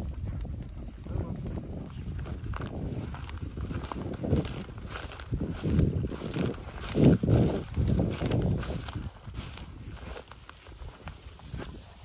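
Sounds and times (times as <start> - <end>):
footsteps through dry grass: 0.0 - 12.0.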